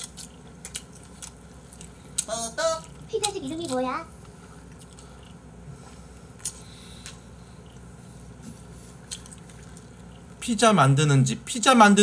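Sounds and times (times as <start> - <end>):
person chewing: 0.0 - 10.4
low room hum: 0.0 - 12.0.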